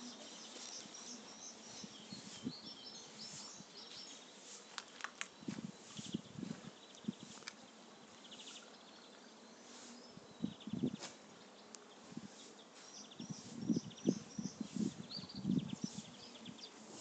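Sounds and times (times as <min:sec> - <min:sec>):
small birds trilling: 0:00.0 - 0:17.0.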